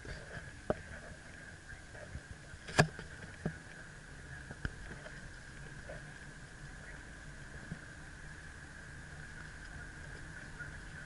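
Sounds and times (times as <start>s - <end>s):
car road and engine noise: 0.0s - 11.0s
steady high hum: 0.0s - 11.0s.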